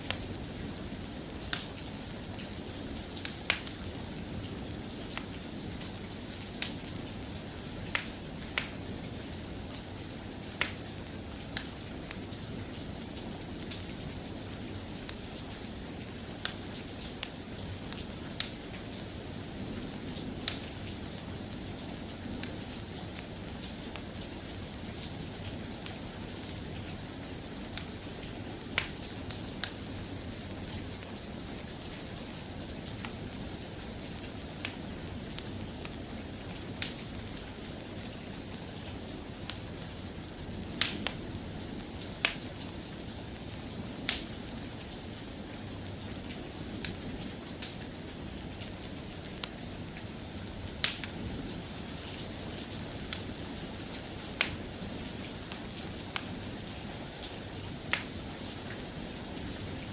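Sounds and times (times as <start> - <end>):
soft rain: 0.0 - 59.9.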